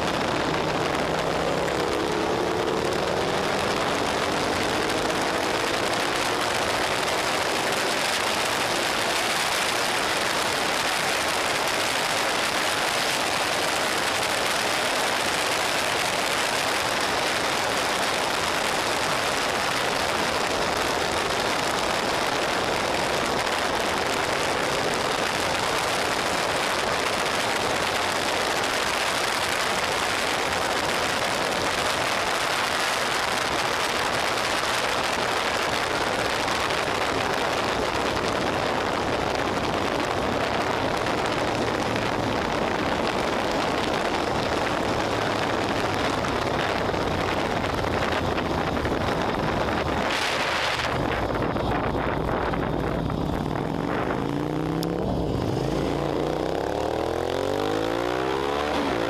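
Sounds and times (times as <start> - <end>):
faint motorcycle engine: 0.0 - 59.0
wind rush over microphone: 0.0 - 59.0.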